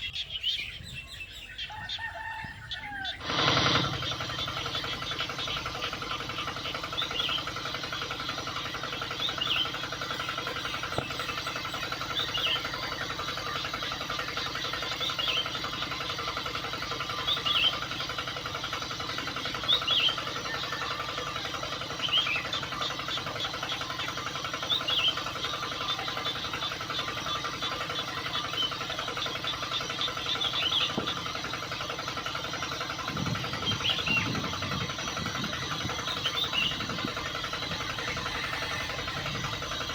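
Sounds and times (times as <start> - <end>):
small motor buzzing: 3.2 - 39.9.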